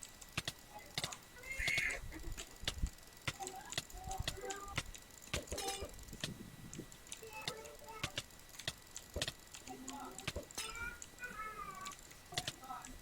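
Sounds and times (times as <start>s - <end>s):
sharp irregular clicks: 0.0s - 13.0s.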